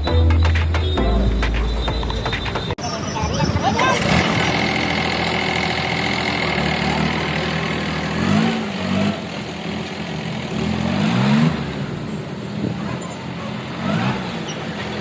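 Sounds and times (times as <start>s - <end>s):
tractor engine idling and revving: 0.0s - 15.0s.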